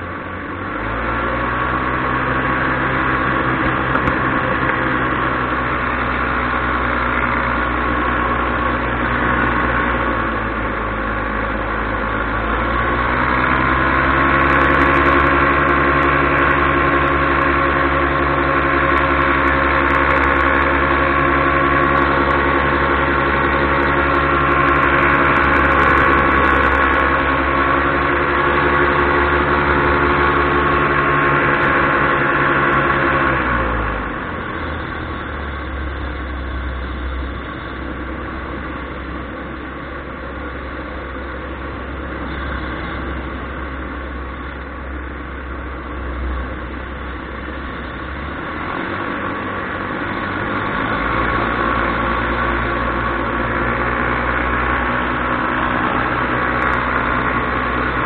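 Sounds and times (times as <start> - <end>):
paramotor engine and propeller: 0.0 - 58.0.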